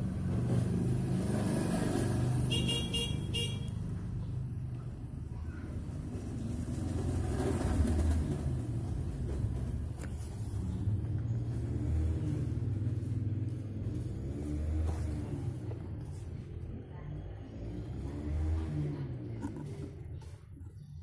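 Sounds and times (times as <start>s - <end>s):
motor vehicle engine rumbling: 0.0s - 21.0s.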